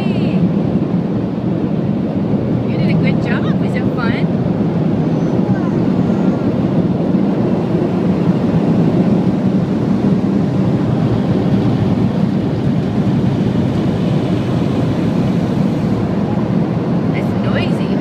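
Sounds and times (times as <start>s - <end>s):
car wash air blowers rushing: 0.0s - 18.0s.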